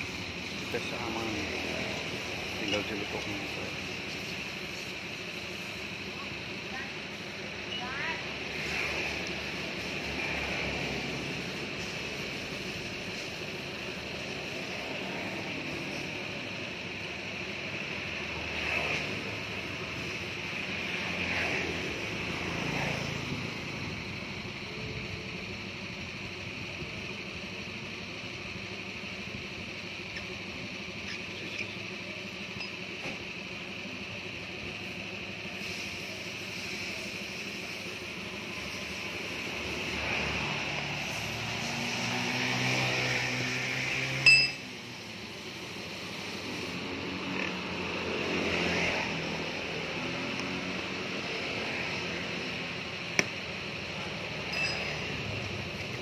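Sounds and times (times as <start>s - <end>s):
low traffic hum: 0.0s - 56.0s
vehicle engine: 0.0s - 56.0s.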